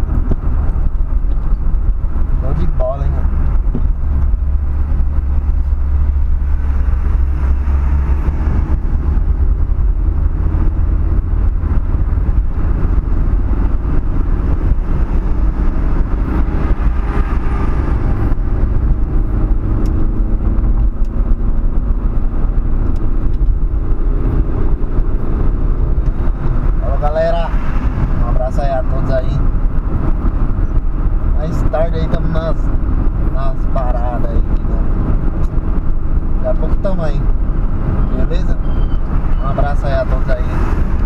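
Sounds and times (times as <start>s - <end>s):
car interior road noise: 0.0s - 41.0s.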